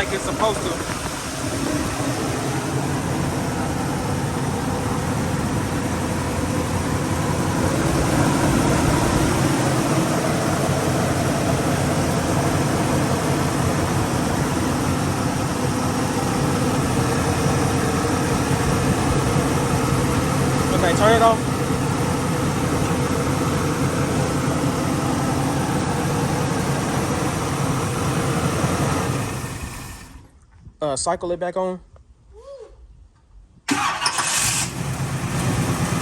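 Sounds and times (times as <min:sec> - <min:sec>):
car engine idling: 0:00.0 - 0:30.4, 0:33.7 - 0:36.0.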